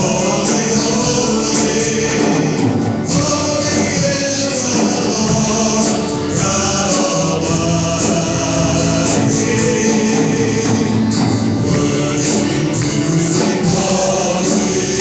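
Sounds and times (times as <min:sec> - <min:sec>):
gospel group singing with instruments: 0:00.0 - 0:15.0.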